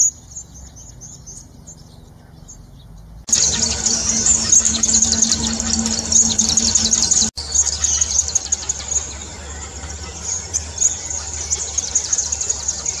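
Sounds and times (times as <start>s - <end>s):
bird chirping and twittering: 0.0s - 13.0s
low steady rumble: 0.8s - 13.0s.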